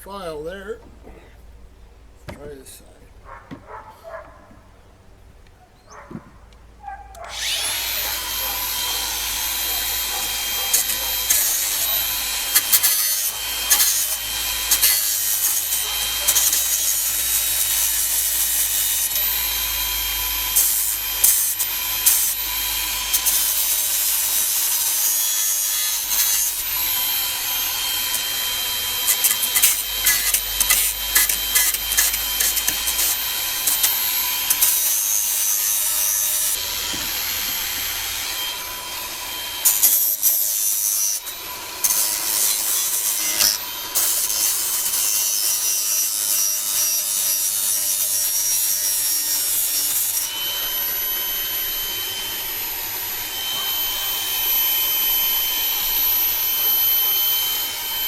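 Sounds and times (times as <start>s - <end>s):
power tool grinding metal: 5.9s - 58.0s.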